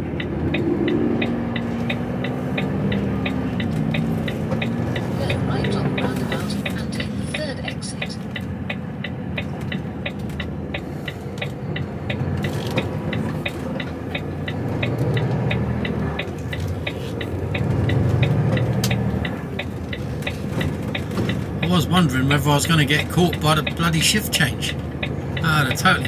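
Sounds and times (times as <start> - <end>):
truck diesel engine running: 0.0 - 26.0
turn indicator ticking: 0.0 - 26.0.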